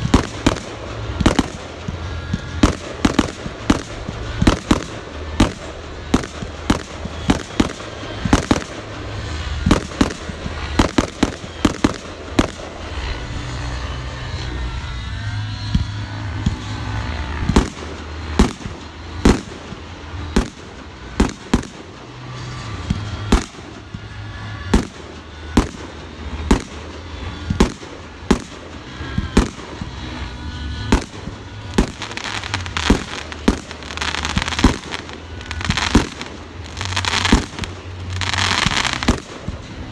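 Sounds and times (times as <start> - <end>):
background rumble: 0.0 - 39.9
fireworks bursting: 0.0 - 39.9.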